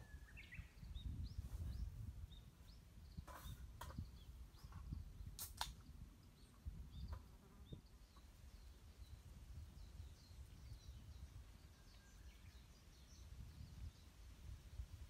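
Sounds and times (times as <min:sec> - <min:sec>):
faint bird chirps: 0:00.0 - 0:14.2.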